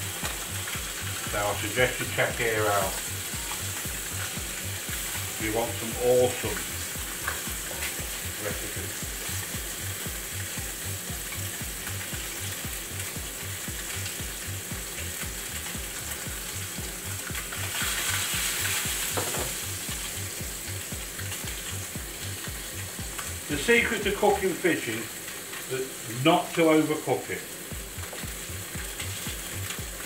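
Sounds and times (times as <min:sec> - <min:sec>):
fish sizzling in pan: 0:00.0 - 0:30.0.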